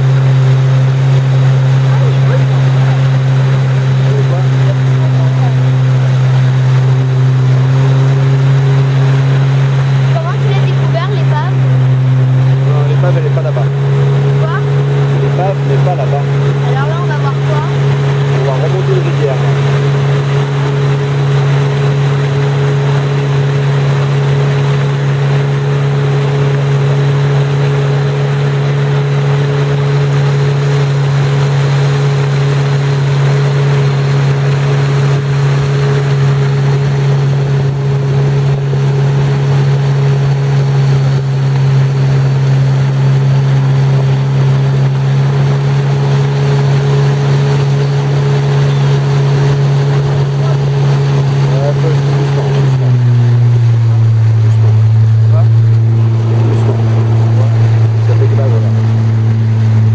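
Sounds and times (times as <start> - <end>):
water rushing past hull: 0.0 - 59.9
watercraft engine drone: 0.0 - 59.9.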